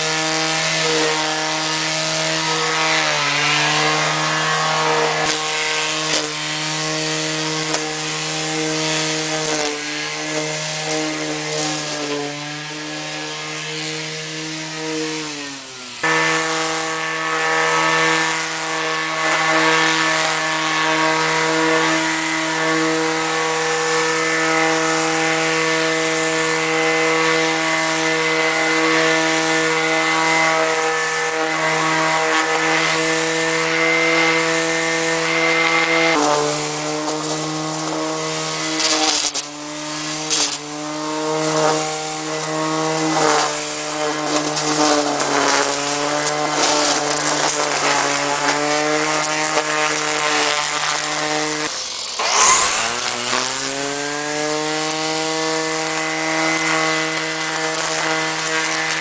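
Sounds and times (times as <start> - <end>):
electric string trimmer whine: 0.0 - 59.0.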